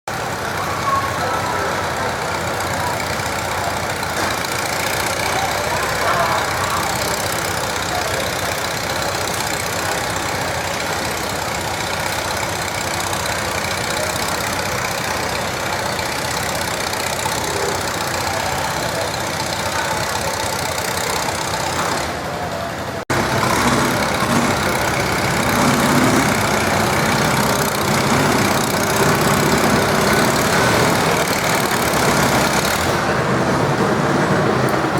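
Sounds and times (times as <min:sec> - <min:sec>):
tractor engine running: 0:00.0 - 0:34.9
outdoor background noise: 0:00.1 - 0:34.9.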